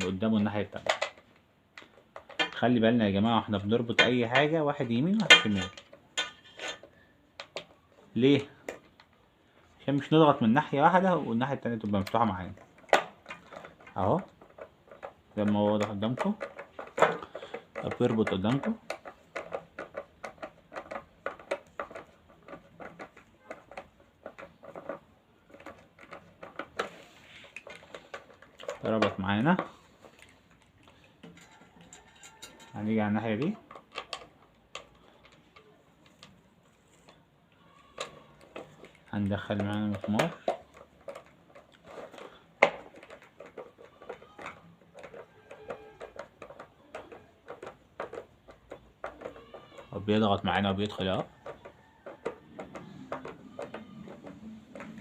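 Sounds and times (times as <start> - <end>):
screwdriver clicking and scraping: 3.9 - 7.8, 11.8 - 55.0.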